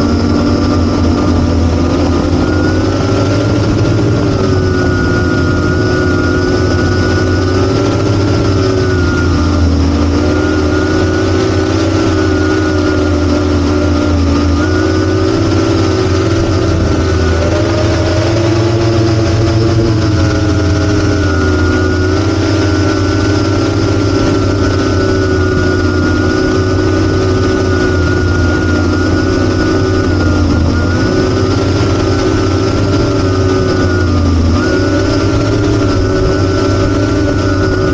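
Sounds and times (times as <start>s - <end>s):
quadcopter motors whirring: 0.0s - 37.9s.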